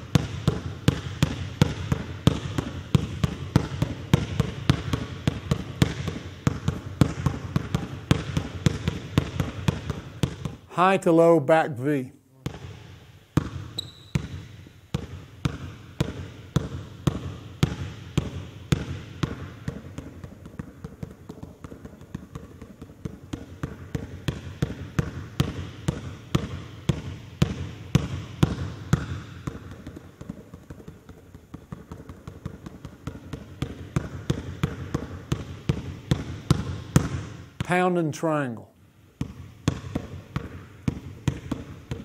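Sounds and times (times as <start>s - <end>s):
basketball bouncing on hardwood floor: 0.0s - 10.6s, 12.4s - 37.8s, 39.1s - 42.0s.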